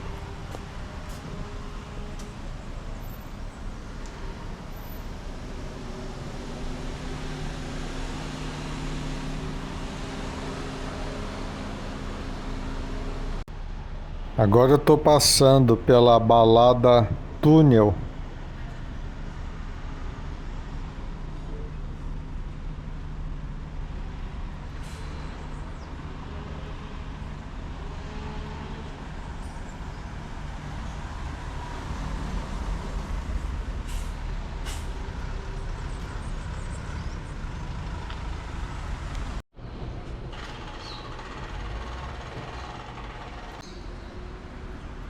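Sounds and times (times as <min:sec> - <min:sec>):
diesel engine low rumble: 0:00.0 - 0:45.0
traffic noise: 0:00.0 - 0:45.0.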